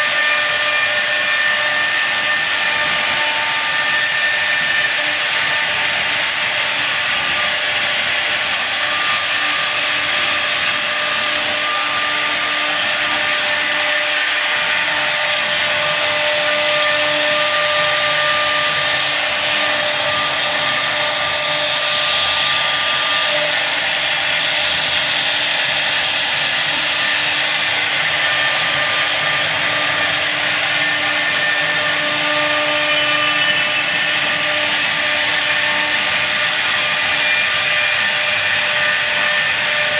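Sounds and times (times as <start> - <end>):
cutting hiss: 0.0 - 39.9
router spindle whine: 0.0 - 39.9.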